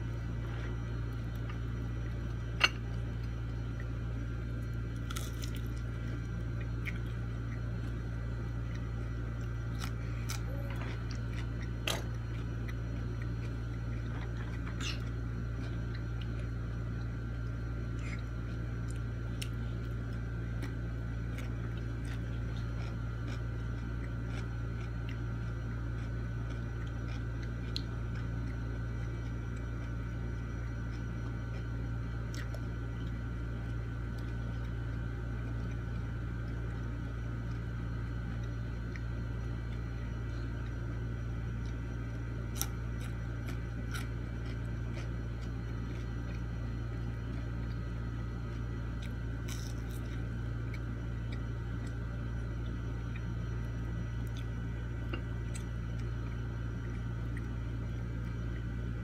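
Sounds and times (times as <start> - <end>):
steady low hum: 0.0 - 59.0
faint chewing: 0.2 - 59.0.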